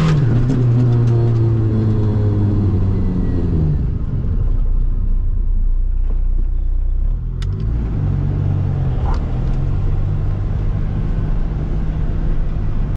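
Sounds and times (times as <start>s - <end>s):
diesel car engine running: 0.0s - 12.9s.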